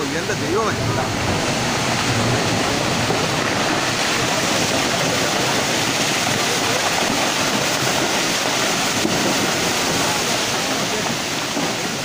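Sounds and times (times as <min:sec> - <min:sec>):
floodwater rushing down hillside: 0:00.0 - 0:12.0.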